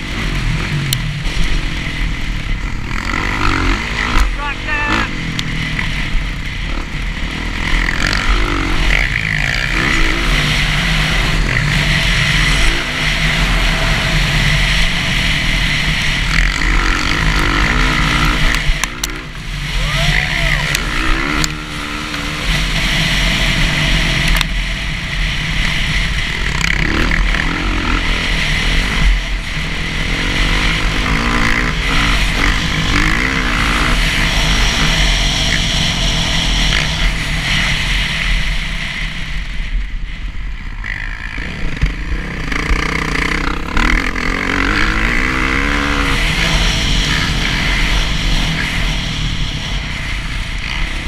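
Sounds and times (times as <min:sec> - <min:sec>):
dirt bike engine revving: 0:00.0 - 0:39.8, 0:40.5 - 0:51.0
heavy rush of noise: 0:00.0 - 0:51.0.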